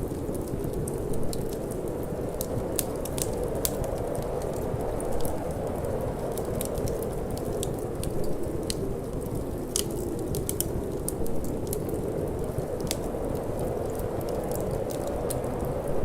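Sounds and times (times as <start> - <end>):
low rushing wind: 0.0 - 16.0
wood fire crackling and popping: 0.0 - 16.0.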